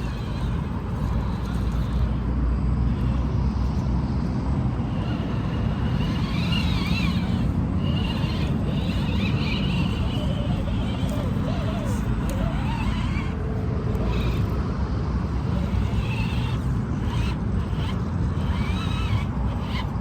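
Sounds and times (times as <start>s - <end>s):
electric motor and gearbox whining: 0.0s - 20.0s.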